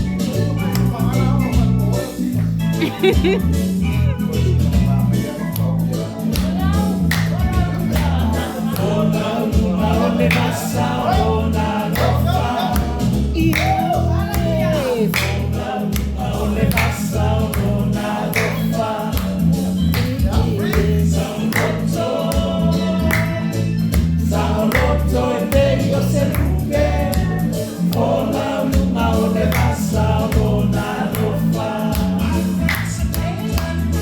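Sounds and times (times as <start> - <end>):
musical accompaniment: 0.0 - 34.0
group singing gospel chorus: 5.4 - 34.0.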